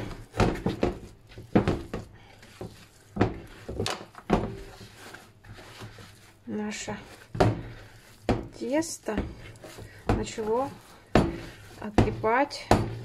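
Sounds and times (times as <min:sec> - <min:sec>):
dough being kneaded by hand: 0:00.0 - 0:13.0.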